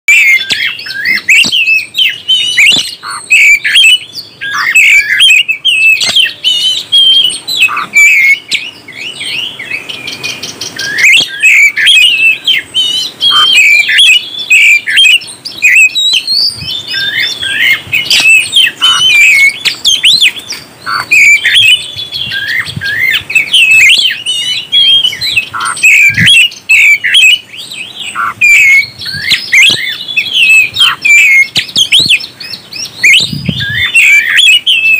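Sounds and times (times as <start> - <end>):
bird singing whistled phrases: 0.1 - 34.9.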